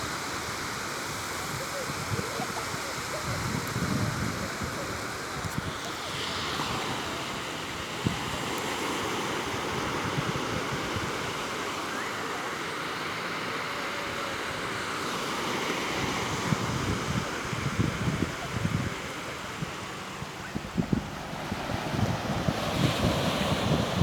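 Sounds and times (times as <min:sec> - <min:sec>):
sea waves washing on shore: 0:00.0 - 0:24.0.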